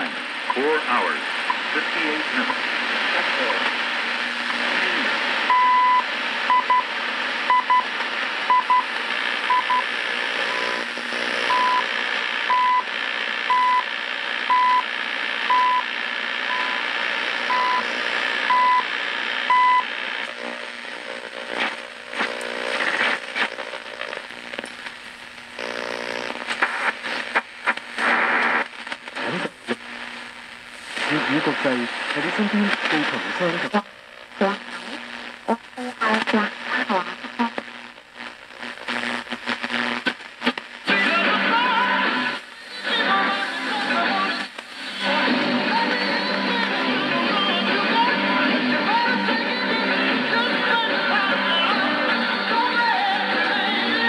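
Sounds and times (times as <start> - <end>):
shortwave static and crackle: 0.0 - 54.0.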